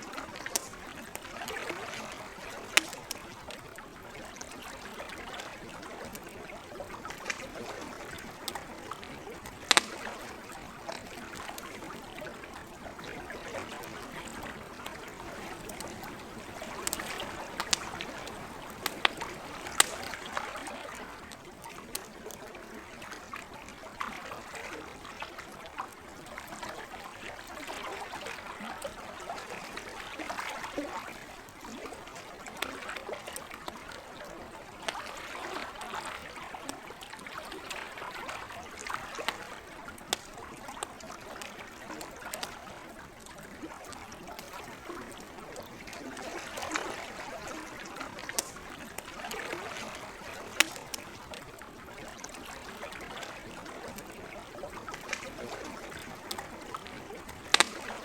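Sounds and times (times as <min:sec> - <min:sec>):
campfire crackling and popping: 0:00.0 - 0:58.0
trickling lake water: 0:00.0 - 0:58.0.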